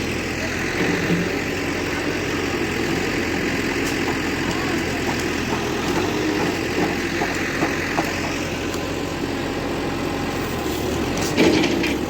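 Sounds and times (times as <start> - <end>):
pump engine running: 0.0 - 12.0.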